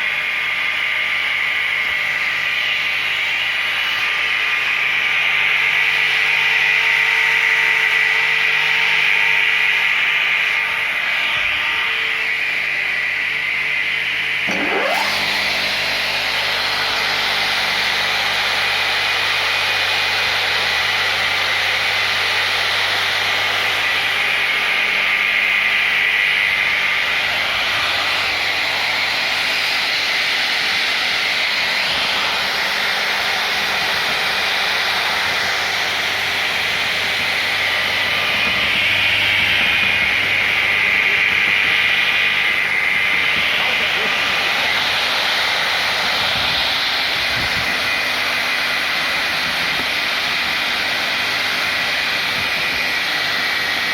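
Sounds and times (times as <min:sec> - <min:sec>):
high steady whine: 0:00.0 - 0:53.9
woodworking machine running: 0:00.0 - 0:53.9
brief rising whine: 0:00.2 - 0:53.9.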